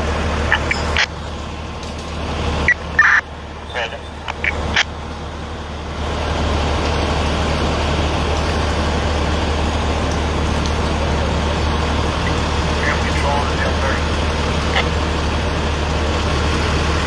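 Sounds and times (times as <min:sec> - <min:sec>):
heavy vehicle engine humming: 0:00.0 - 0:17.0.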